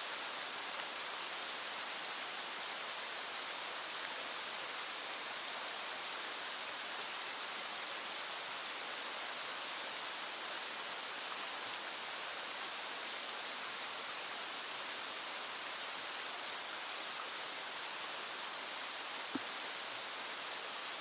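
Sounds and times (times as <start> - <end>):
rain falling: 0.0 - 21.0
small stream rushing: 0.0 - 21.0.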